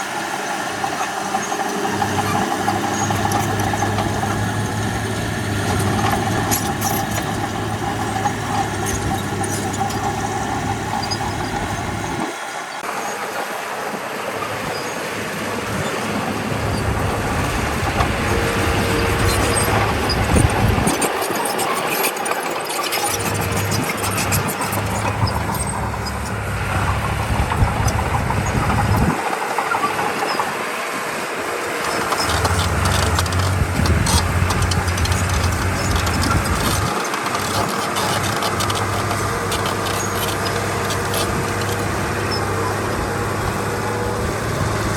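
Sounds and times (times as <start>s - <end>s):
heavy machinery diesel engine running: 0.0s - 44.9s.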